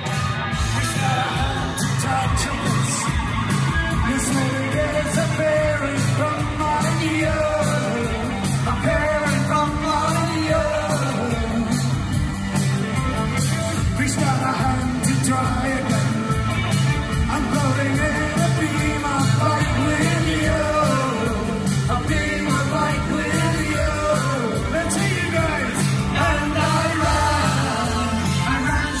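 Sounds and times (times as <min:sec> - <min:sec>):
drums with cymbal strokes: 0:00.0 - 0:29.0
keyboards: 0:00.0 - 0:29.0
man singing: 0:00.6 - 0:12.4, 0:13.0 - 0:16.4, 0:17.1 - 0:29.0.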